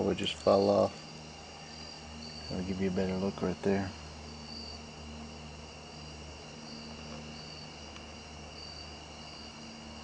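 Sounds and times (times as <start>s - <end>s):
insect trilling and chirps: 0.0s - 10.0s
low steady hum: 0.0s - 10.0s.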